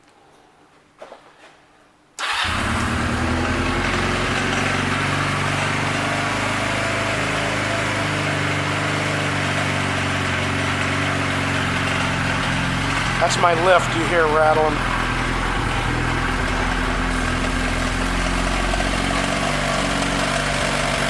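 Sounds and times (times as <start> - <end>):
motorcycle engine starting and idling: 2.2 - 21.0
motorcycle lift rattling: 2.2 - 21.0.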